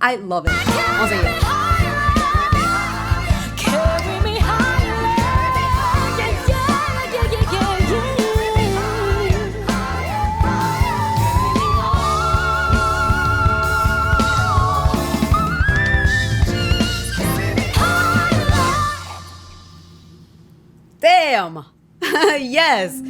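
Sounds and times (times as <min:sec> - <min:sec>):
band accompaniment: 0:00.5 - 0:19.2
woman singing soul ballad: 0:00.5 - 0:19.2.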